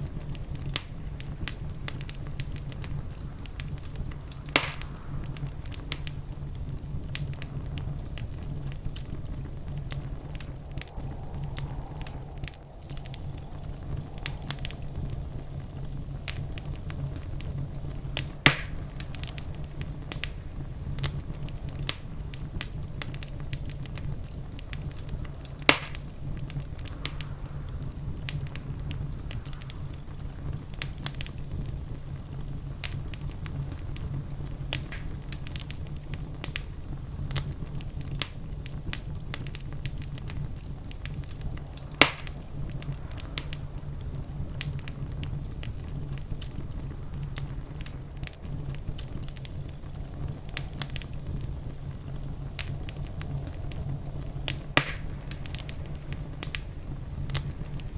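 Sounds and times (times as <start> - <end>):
loud fire pops: 0.0 - 57.9
low rumble of flames: 0.0 - 57.9
wood fire crackling: 0.0 - 57.9.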